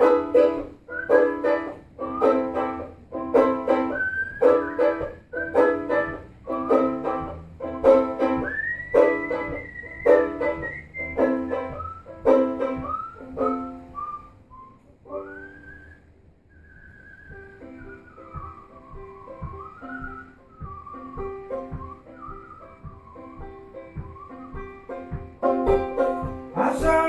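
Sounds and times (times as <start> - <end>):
banjo-ukulele strumming chords: 0.0 - 14.2, 15.1 - 15.6, 17.6 - 27.0
man whistling a melody: 0.0 - 27.0.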